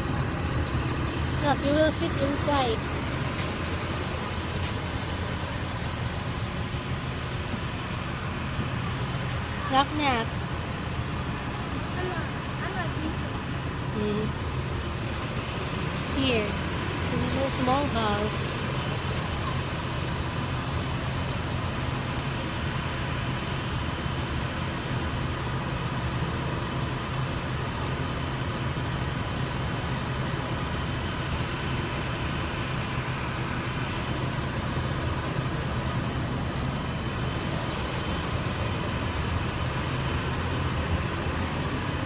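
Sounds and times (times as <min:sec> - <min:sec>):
machinery humming: 0:00.0 - 0:42.0.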